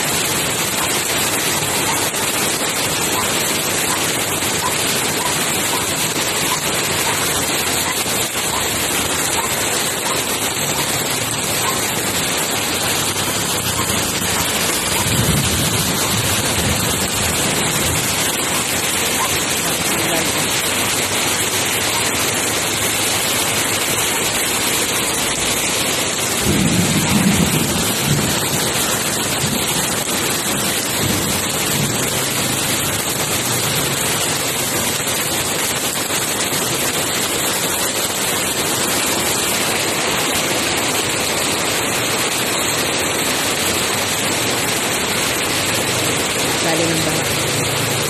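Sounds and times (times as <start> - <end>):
heavy rain on wet street: 0.0 - 48.0.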